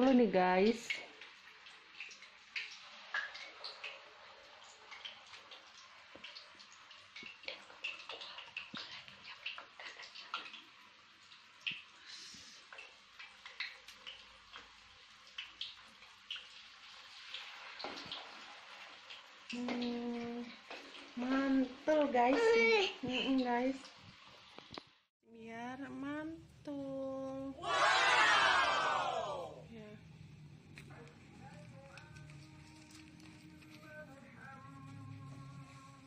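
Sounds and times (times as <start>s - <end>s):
oil crackling and popping: 0.0s - 25.1s, 29.6s - 36.0s
food sizzling in hot oil: 0.0s - 36.0s.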